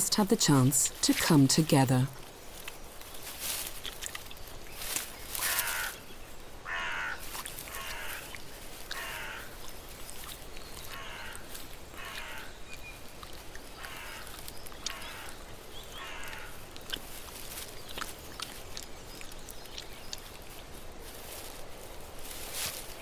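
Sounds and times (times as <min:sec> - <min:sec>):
animal chewing and licking: 0:02.1 - 0:05.7, 0:07.2 - 0:22.2.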